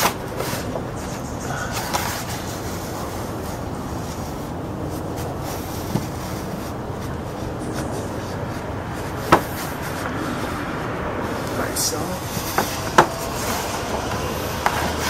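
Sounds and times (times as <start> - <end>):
paper rubbing and rustling: 0.0 - 10.6, 11.2 - 15.0.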